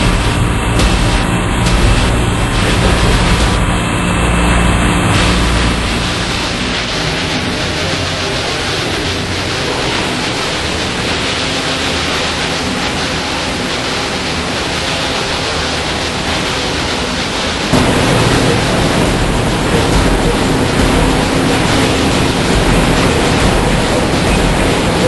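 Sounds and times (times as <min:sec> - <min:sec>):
engine room machinery roar: 0:00.0 - 0:25.0
low hum: 0:00.0 - 0:25.0.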